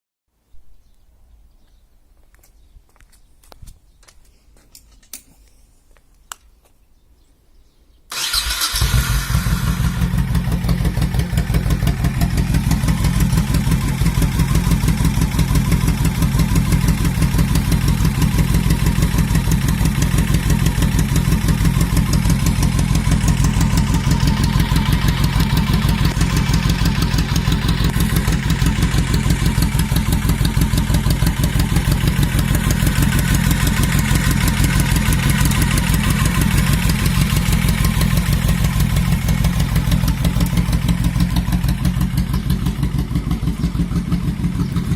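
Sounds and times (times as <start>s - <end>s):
motorcycle engine starting and idling: 8.1s - 44.9s.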